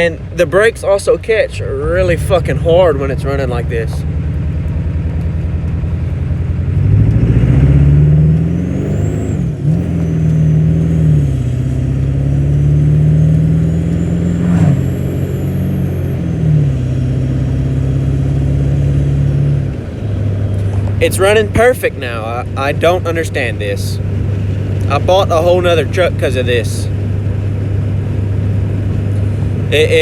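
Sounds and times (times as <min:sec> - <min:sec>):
diesel engine at highway speed: 0:00.0 - 0:30.0
high turbo whine: 0:00.0 - 0:30.0.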